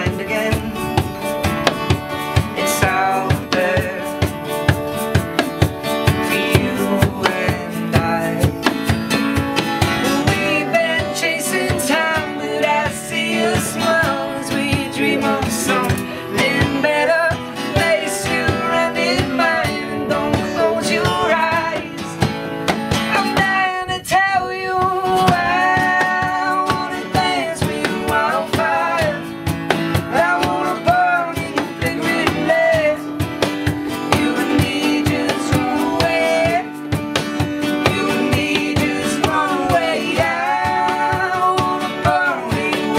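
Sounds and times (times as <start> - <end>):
man singing: 0.0 - 4.7, 6.1 - 9.0, 10.0 - 22.3, 23.0 - 36.9, 37.6 - 42.9
acoustic guitar strumming: 0.0 - 42.9.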